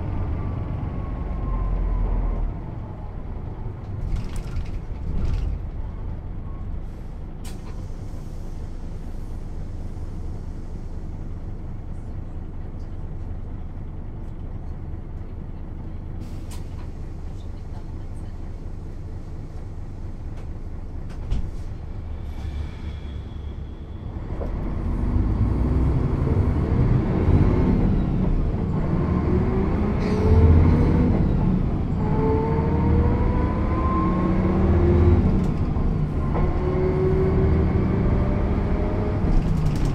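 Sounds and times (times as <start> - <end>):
diesel bus engine: 0.0 - 39.9.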